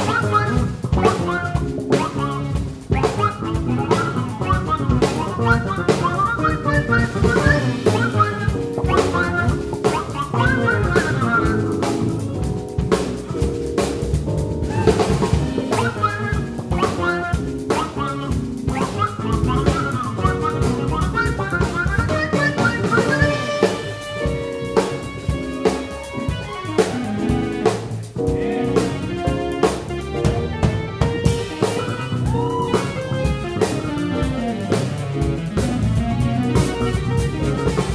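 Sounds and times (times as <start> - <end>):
drum kit: 0.0 - 37.9
electric bass guitars: 0.0 - 37.9
trumpet melody: 0.0 - 37.9.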